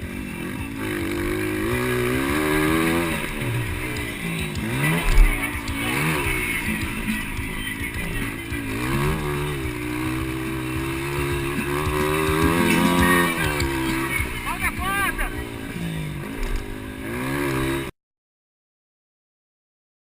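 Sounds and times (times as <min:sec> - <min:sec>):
motocross bike engines revving: 0:00.0 - 0:17.9.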